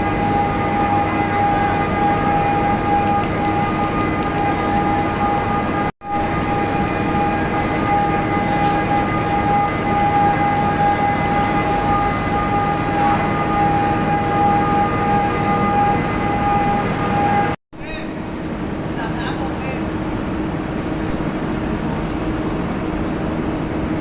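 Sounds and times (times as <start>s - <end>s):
high-pitched machine whine: 0.0s - 24.0s
machinery hum: 0.0s - 24.0s.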